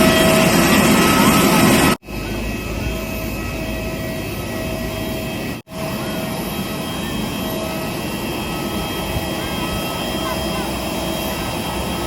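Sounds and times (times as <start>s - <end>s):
high-pitched steady tones: 0.0s - 12.0s.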